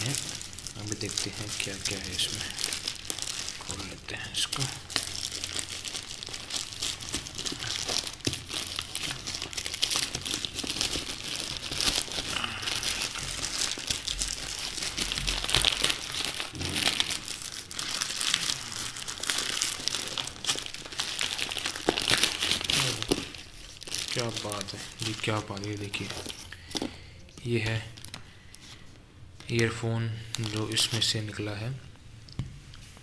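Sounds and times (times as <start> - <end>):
plastic bag crinkling and ripping: 0.0 - 28.8, 30.2 - 31.5.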